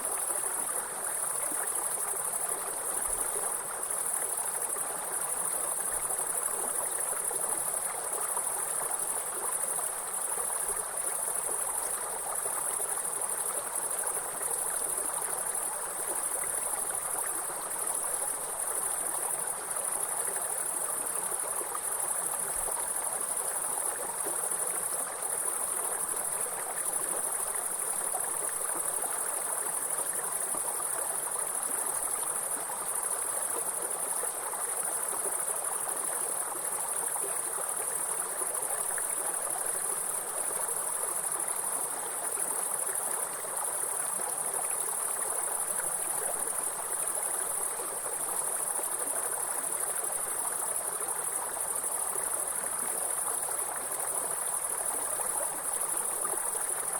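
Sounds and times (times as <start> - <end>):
high-pitched insect chorus: 0.0 - 56.9
stream water flowing: 0.0 - 56.9.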